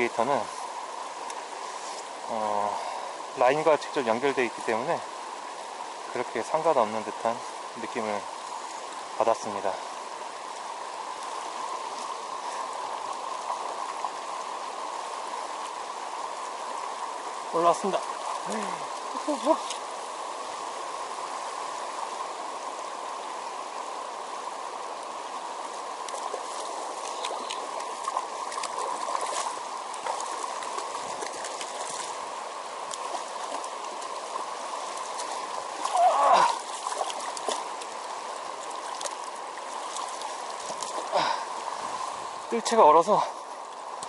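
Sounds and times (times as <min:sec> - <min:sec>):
stream rushing over stones: 0:00.0 - 0:44.0.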